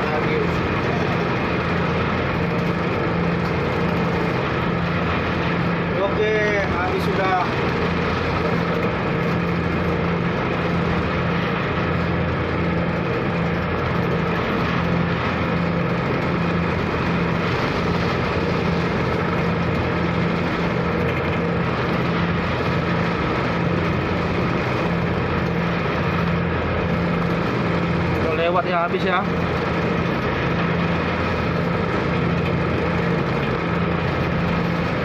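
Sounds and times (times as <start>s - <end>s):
ferry diesel engine droning: 0.0s - 35.0s.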